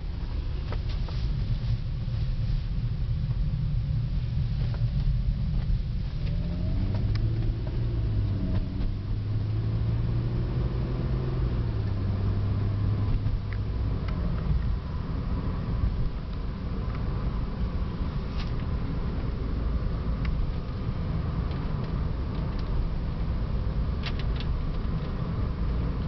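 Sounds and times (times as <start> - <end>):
car engine: 0.0 - 26.0
road noise inside car: 0.0 - 26.0.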